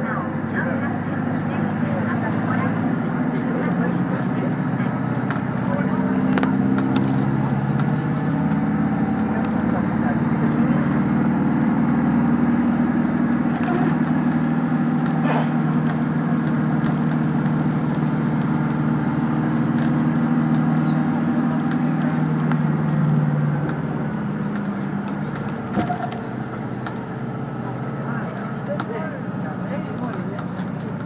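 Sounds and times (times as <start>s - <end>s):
bus engine running: 0.0s - 31.0s
rattles and clicks in bus interior: 0.0s - 31.0s.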